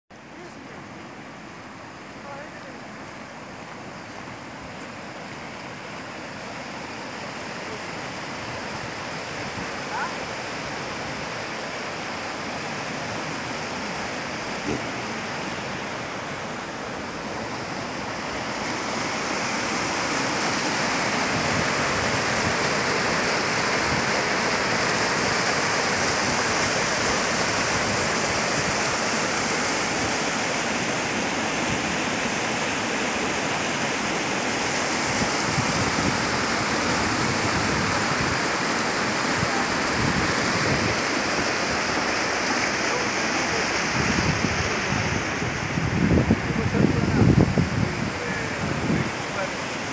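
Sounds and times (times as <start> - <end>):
mountain stream rushing over rocks: 0.1 - 49.9.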